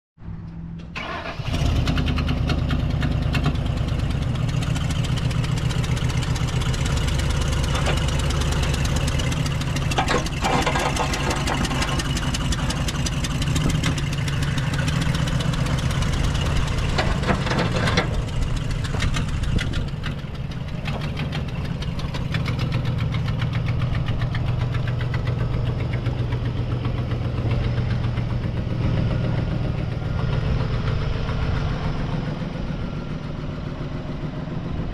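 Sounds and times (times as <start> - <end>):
pickup truck engine starting and idling: 0.5 - 34.9.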